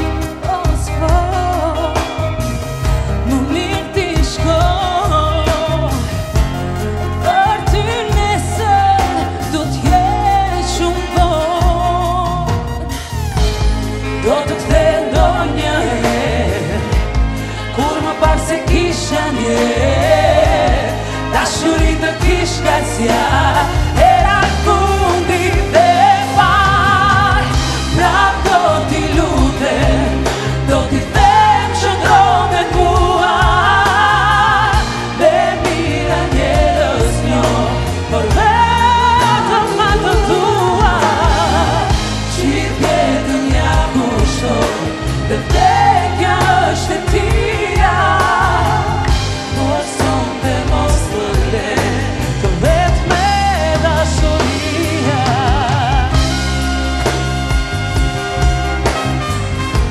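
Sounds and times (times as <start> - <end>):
two women singing duet: 0.0 - 6.1, 7.2 - 12.6, 14.0 - 56.4
band playing: 0.0 - 59.9.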